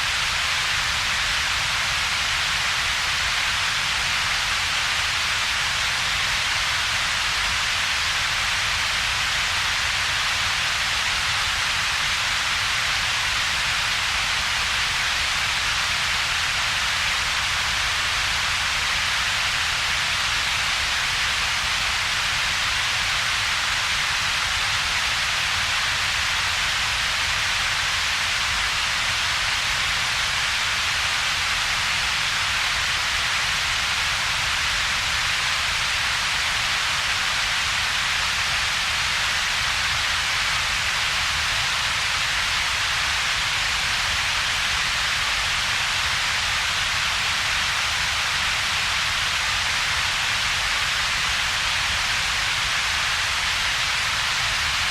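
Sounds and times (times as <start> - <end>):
synthetic steady hiss: 0.0 - 54.9.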